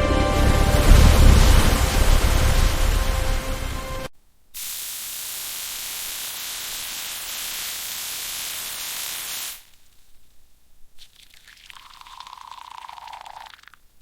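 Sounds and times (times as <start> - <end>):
steady hiss: 0.8 - 14.0.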